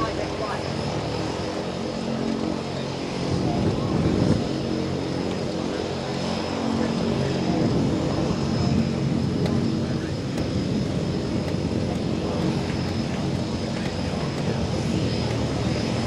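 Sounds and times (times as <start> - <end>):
propeller airplane engine running: 0.0 - 16.0.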